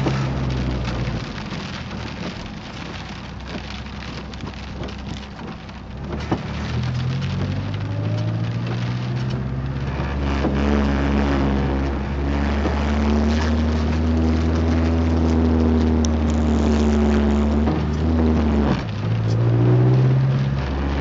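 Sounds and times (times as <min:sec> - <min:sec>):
car engine drone: 0:00.0 - 0:21.0.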